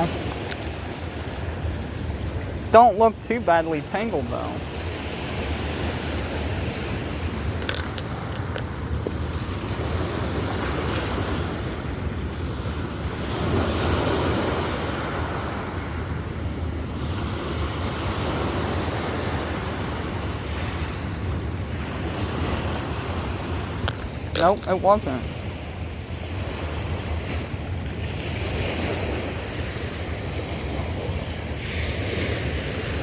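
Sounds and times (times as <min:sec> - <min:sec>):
fast-flowing river water: 0:00.0 - 0:33.0
wind on microphone: 0:00.0 - 0:33.0.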